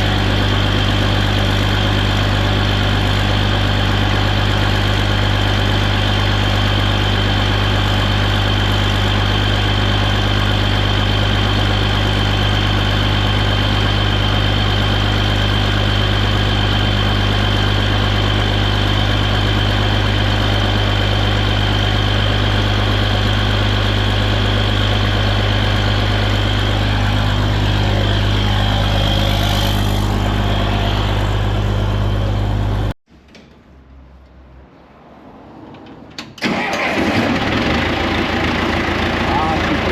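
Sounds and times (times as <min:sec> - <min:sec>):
tractor engine idling: 0:00.0 - 0:33.0, 0:36.4 - 0:39.9.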